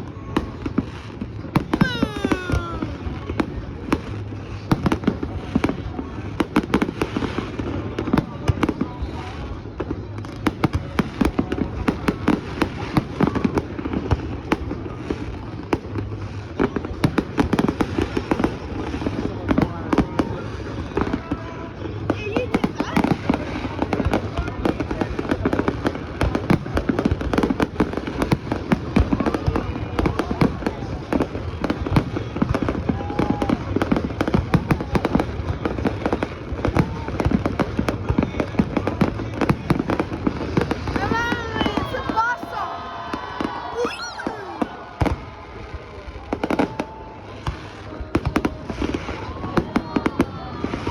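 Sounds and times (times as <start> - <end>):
fireworks bangs and crackles: 0.0 - 50.9.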